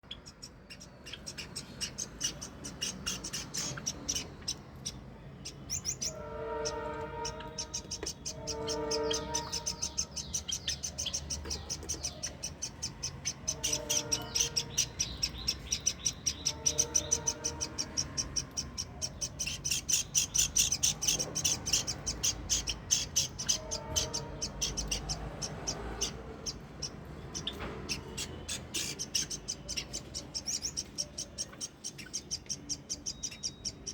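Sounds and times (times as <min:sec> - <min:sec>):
parrots chirping rapidly: 0:00.0 - 0:33.9
drawn-out parrot calls: 0:00.4 - 0:33.9.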